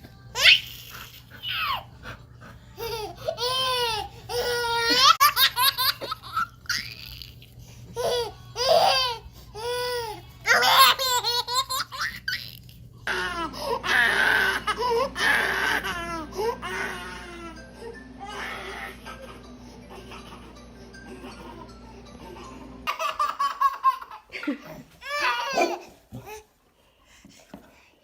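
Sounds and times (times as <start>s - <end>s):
baby laughing: 0.4s - 1.9s, 2.8s - 17.5s, 18.2s - 26.4s.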